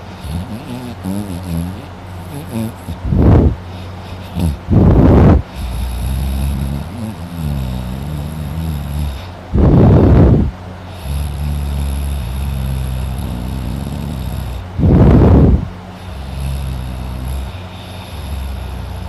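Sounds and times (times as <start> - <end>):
low droning breath: 0.0 - 19.0
man snoring loudly: 0.0 - 19.0.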